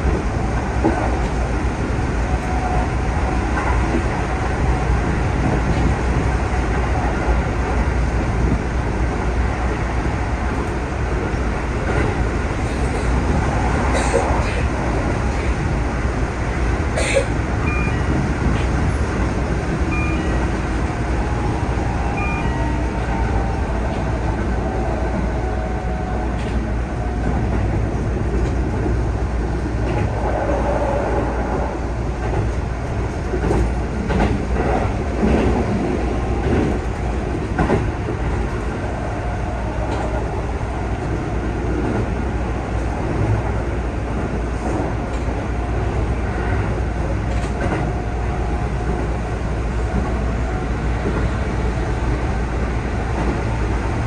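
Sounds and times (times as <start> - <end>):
train wheel-on-rail rumble: 0.0 - 54.0.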